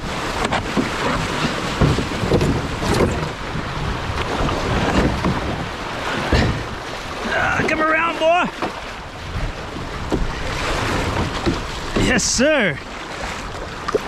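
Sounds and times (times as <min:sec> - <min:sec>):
water splashing along hull: 0:00.0 - 0:14.0
whitewater rushing: 0:00.0 - 0:14.0
wind buffeting microphone: 0:00.0 - 0:14.0.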